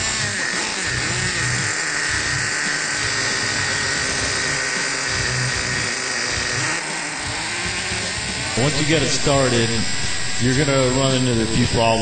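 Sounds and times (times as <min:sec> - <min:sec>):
small nitro engine whining: 0:00.0 - 0:12.0.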